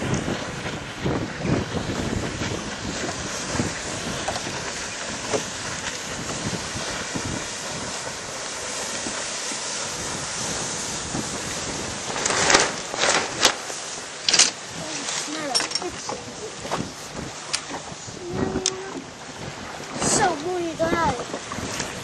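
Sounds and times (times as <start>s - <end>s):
water and waves rushing: 0.0s - 22.0s
wind buffeting microphone: 0.0s - 22.0s.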